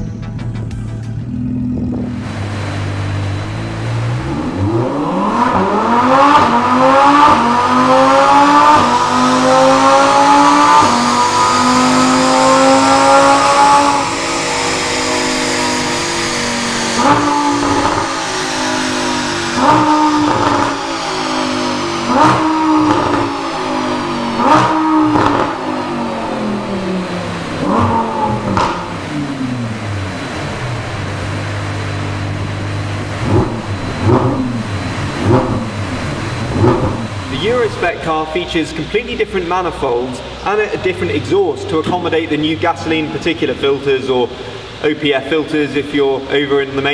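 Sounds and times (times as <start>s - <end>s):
car engine accelerating hard: 1.1s - 46.9s
downshift rev blips: 1.2s - 41.2s.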